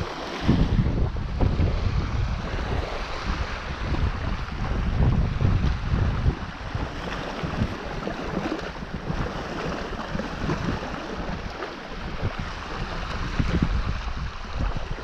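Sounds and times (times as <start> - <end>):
small waves lapping on sand: 0.0 - 15.0
wind buffeting microphone: 0.0 - 15.0.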